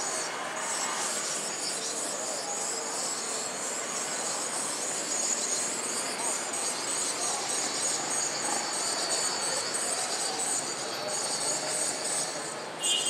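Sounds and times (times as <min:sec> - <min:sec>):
even outdoor hiss: 0:00.0 - 0:13.0.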